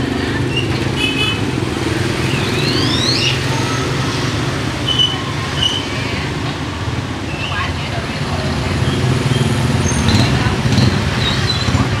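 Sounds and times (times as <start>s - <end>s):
motorbike engines passing: 0.0s - 12.0s
street traffic rumble: 0.0s - 12.0s.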